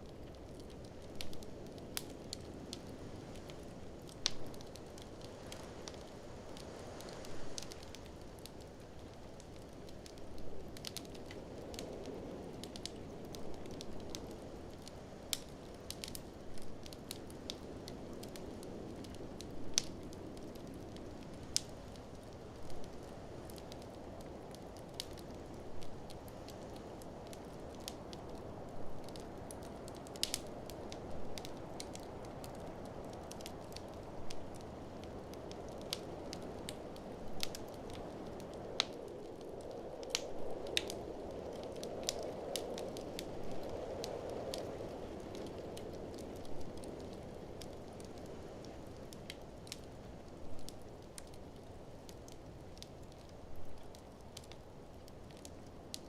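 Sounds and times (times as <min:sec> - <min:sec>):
blizzard wind: 0:00.0 - 0:56.0
wood fire crackling: 0:00.0 - 0:56.0.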